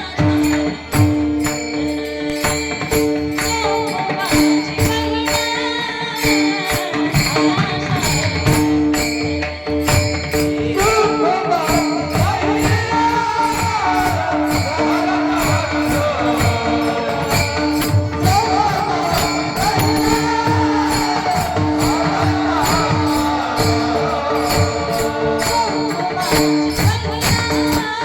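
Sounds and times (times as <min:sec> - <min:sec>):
devotional music: 0:00.0 - 0:28.0
jingling cymbals: 0:00.0 - 0:28.0.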